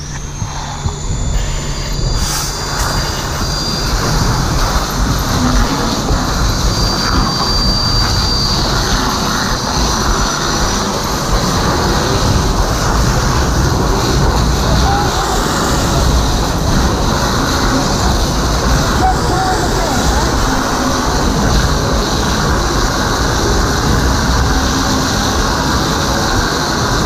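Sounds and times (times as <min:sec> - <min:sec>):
fire hose water jets rushing: 0:00.0 - 0:27.0
gas fire roaring: 0:00.0 - 0:27.0.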